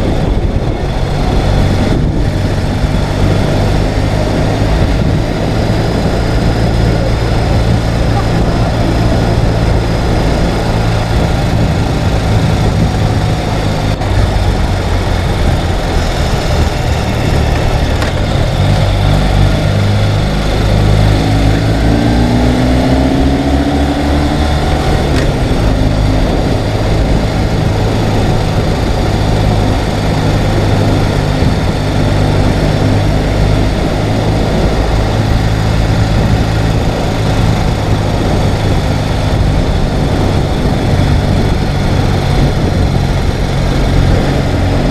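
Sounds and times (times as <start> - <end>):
motorcycle engine running: 0.0 - 44.9
second engine rising in pitch: 0.0 - 44.9.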